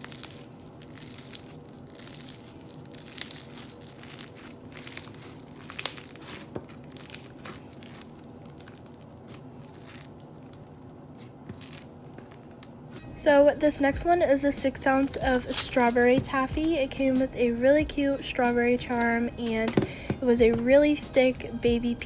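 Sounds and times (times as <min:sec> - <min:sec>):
crunchy slime squished by hand: 0:00.0 - 0:13.1, 0:14.7 - 0:20.2.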